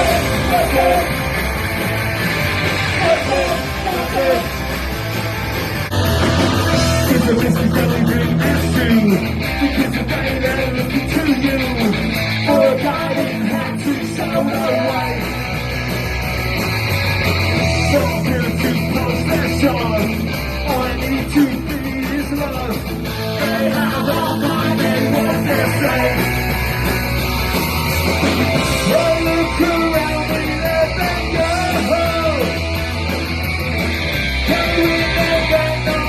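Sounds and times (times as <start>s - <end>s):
live punk rock band: 0.0s - 36.0s.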